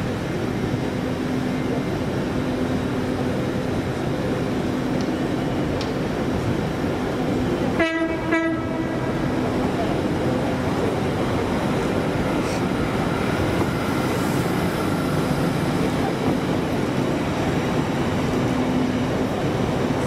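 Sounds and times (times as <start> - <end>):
train carriages passing: 0.0 - 20.0.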